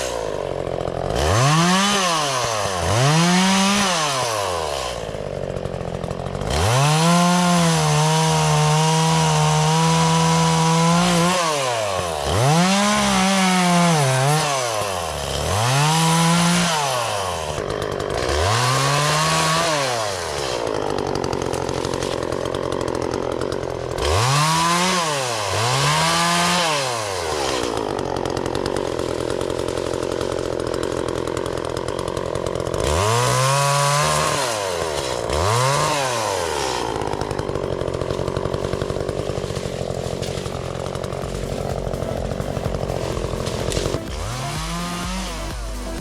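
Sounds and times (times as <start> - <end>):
chainsaw idling and revving: 0.0 - 46.0.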